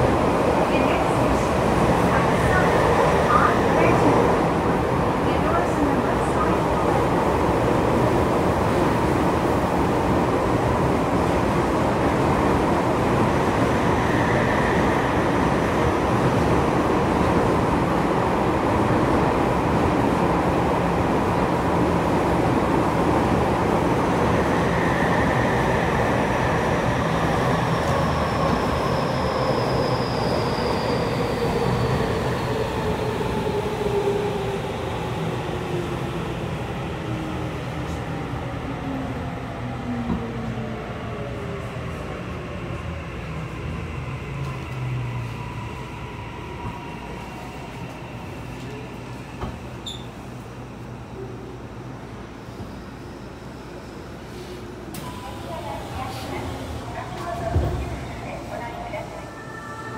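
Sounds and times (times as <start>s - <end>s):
subway train interior running noise: 0.0s - 59.9s.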